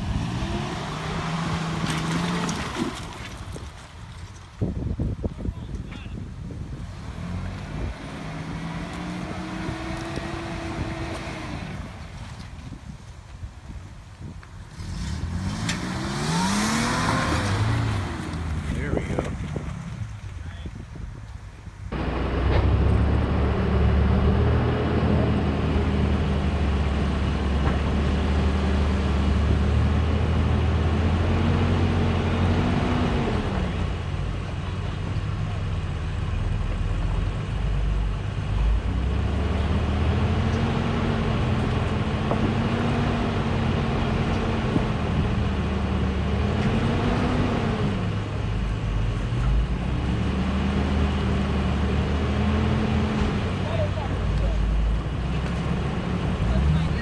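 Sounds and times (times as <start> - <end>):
truck engine revving: 0.0 - 12.8, 14.6 - 20.7, 21.9 - 57.0.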